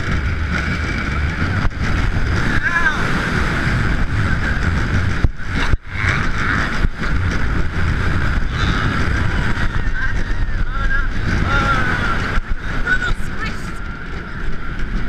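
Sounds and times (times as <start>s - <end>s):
roller coaster rumbling on track: 0.0s - 15.0s
wind on microphone: 0.0s - 15.0s.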